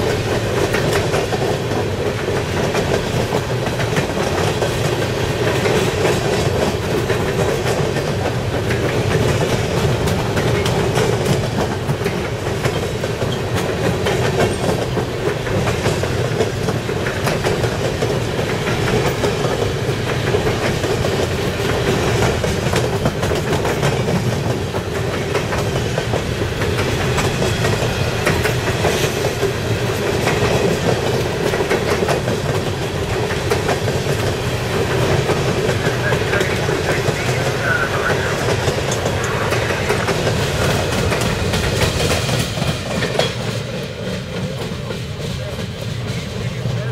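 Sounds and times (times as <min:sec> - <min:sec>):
train wheels rumbling on rail: 0:00.0 - 0:46.9
wheels clacking over track: 0:00.0 - 0:46.9.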